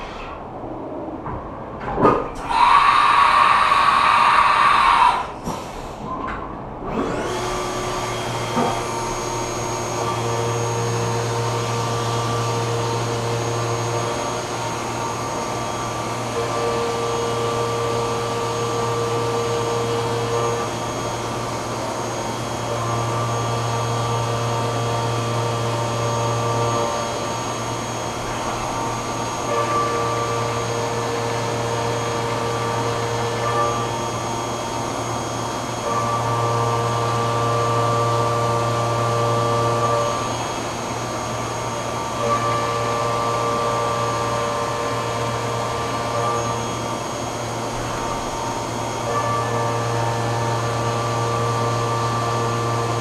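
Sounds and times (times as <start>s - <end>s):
milling machine whine and cutting: 2.4s - 5.8s, 6.8s - 53.0s.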